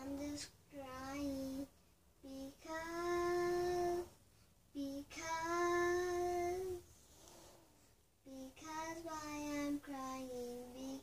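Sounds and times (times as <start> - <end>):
girl singing unaccompanied: 0.0 - 6.9, 8.2 - 11.0.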